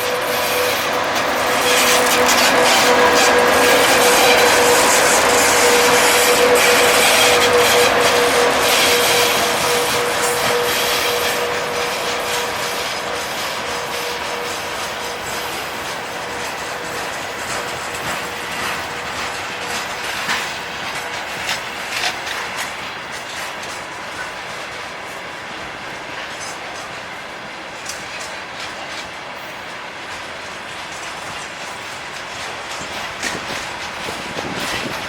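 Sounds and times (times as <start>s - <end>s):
train wheels clacking on rails: 0.0s - 35.0s.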